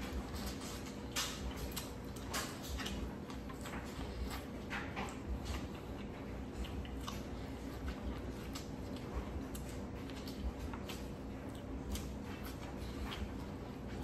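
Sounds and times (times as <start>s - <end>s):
wet chewing and mouth smacking: 0.0s - 14.0s.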